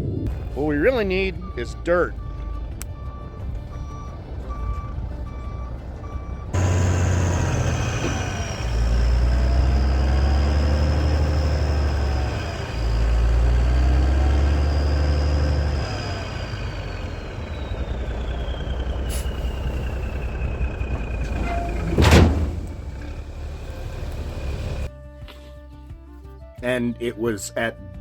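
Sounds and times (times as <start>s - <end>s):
truck engine revving: 0.3s - 24.9s
truck reversing alarm beeping: 0.3s - 24.9s.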